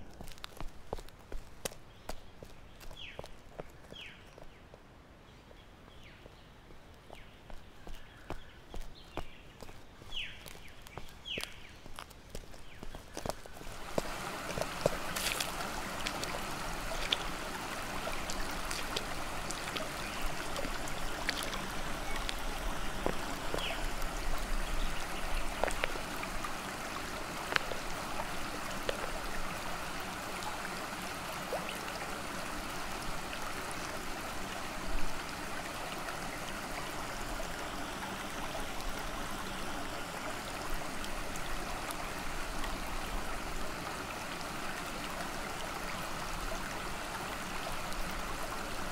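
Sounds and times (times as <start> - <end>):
water trickling over concrete: 0.0 - 4.6, 6.0 - 48.9.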